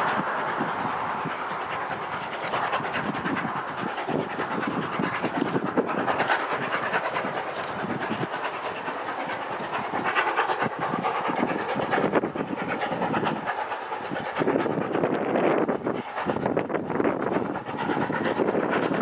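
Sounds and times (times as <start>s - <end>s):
steam locomotive exhaust beating: 0.0s - 19.0s.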